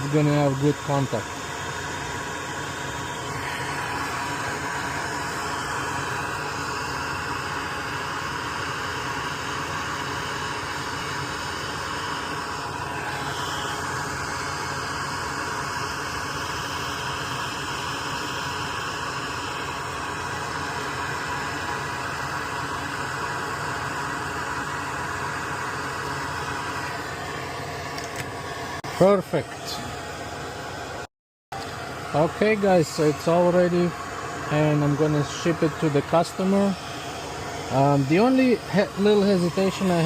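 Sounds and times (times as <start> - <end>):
fan whooshing air: 0.0 - 40.0.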